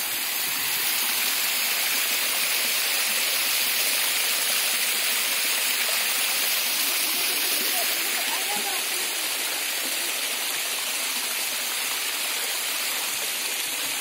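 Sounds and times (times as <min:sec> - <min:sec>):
water rushing over dam: 0:00.0 - 0:14.0.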